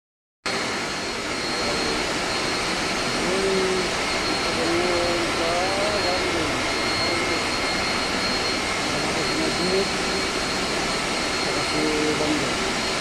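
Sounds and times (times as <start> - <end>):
chiller machinery running: 0.5 - 13.0
thin high whine: 0.5 - 13.0.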